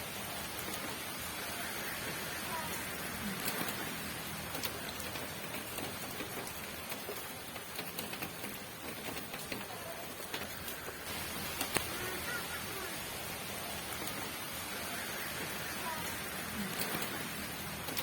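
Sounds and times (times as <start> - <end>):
raindrops striking close by: 0.0 - 18.0
steady rain falling: 0.0 - 18.0.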